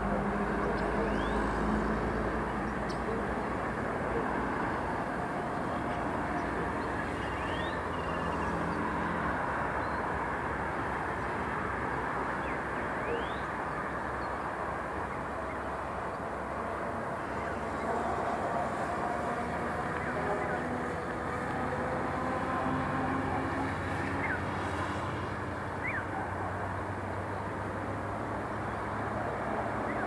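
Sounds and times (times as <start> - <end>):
distant traffic noise: 0.0 - 30.0.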